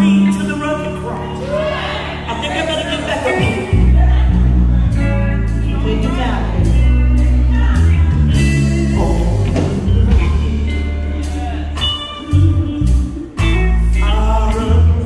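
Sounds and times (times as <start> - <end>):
electric guitar: 0.0 - 15.0
heavy bass line: 0.0 - 15.0.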